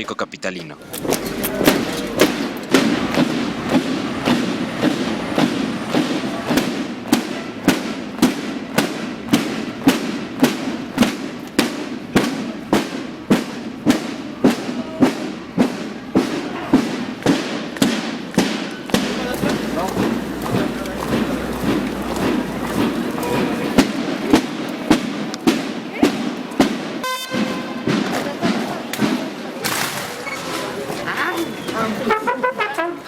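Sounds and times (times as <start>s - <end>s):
boots marching on street: 0.7s - 33.0s.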